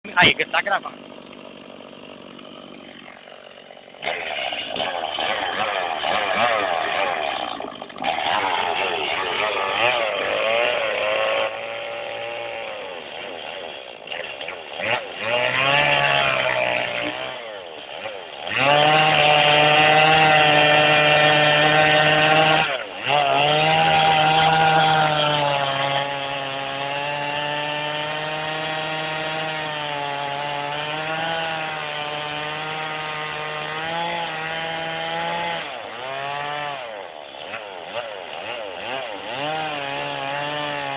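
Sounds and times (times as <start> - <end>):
chainsaw cutting wood: 0.1 - 40.9.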